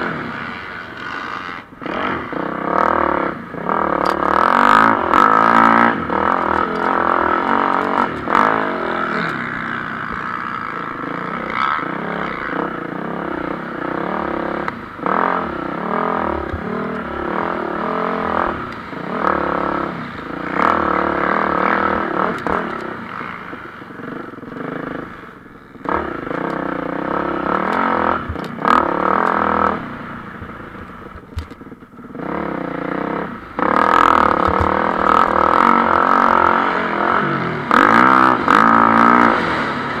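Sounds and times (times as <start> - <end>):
motocross bikes revving: 0.0 - 40.0.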